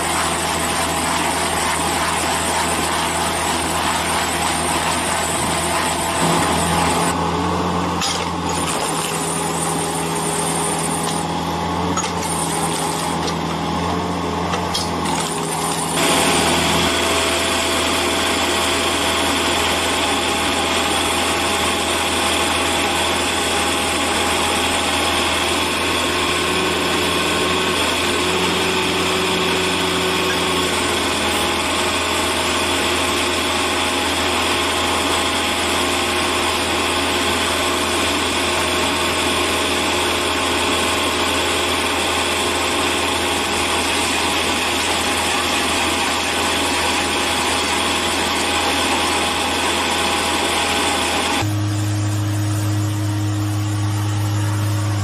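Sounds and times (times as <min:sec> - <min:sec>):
machine engine droning: 0:00.0 - 0:55.0.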